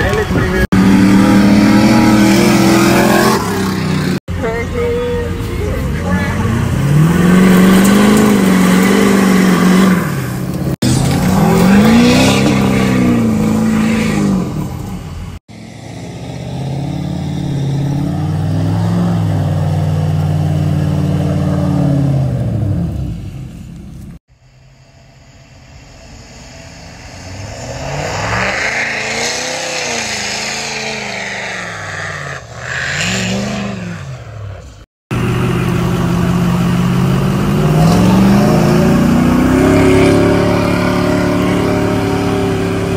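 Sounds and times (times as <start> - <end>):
truck engines revving: 0.0 - 24.2, 25.6 - 42.9.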